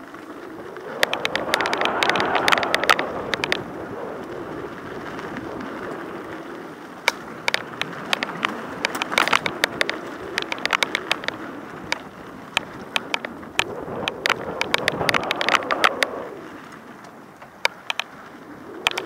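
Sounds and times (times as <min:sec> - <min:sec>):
bike clicks and rattles: 0:00.0 - 0:19.0
bike tires rolling on dirt trail: 0:00.0 - 0:19.0.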